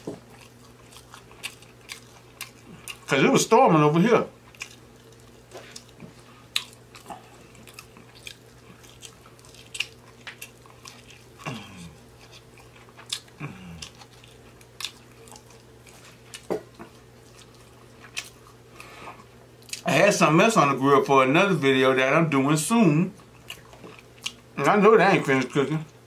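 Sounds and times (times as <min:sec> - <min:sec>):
chewing ribs with mouth smacks: 0:00.0 - 0:03.1, 0:04.3 - 0:19.9, 0:23.2 - 0:25.4.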